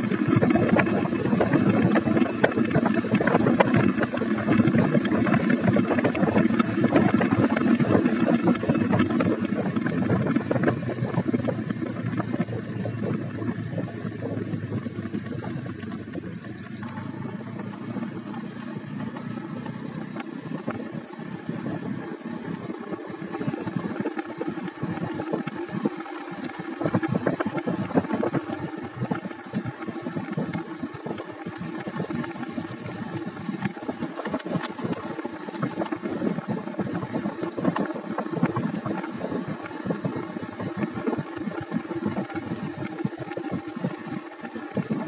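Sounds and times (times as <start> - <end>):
motorcycle engine droning: 0.0 - 45.0.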